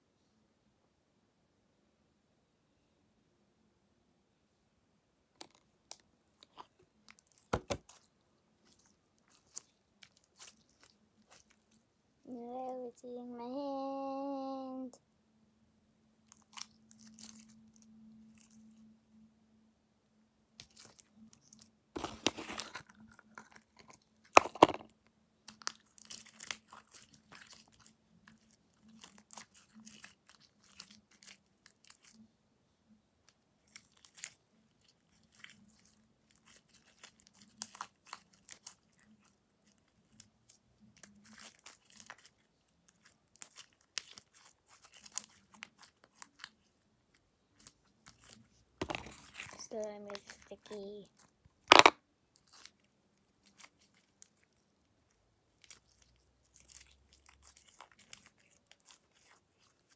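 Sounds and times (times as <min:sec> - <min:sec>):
slime squelching and crackling: 0:05.4 - 0:13.7, 0:16.2 - 0:18.9, 0:20.6 - 0:24.8, 0:25.4 - 0:32.3, 0:33.2 - 0:59.9.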